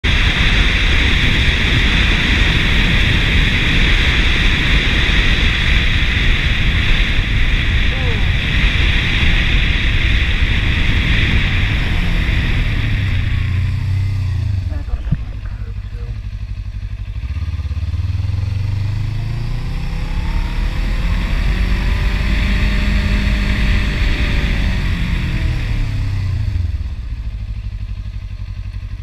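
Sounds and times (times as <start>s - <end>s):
wind roaring over microphone: 0.0s - 16.5s, 17.7s - 27.0s
motorcycle engine low note: 0.0s - 29.0s.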